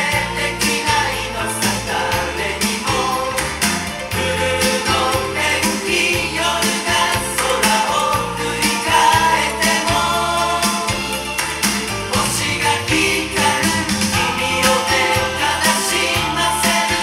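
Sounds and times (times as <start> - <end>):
pop song with group vocals: 0.0 - 17.0
steady bass beat: 0.0 - 17.0.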